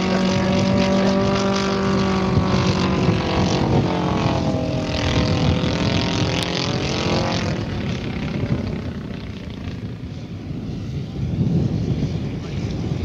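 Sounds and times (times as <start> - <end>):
model plane engine droning: 0.0 - 13.0.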